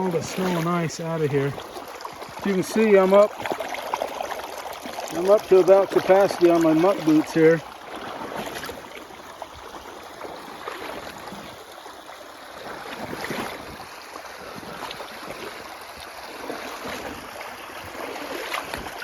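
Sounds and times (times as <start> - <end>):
boots splashing in water: 0.0 - 19.0
water rushing along ditch: 0.0 - 19.0.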